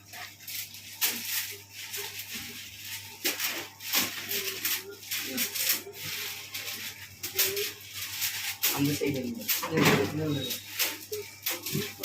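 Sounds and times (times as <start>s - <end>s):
plastic packets rustling: 0.0s - 12.0s.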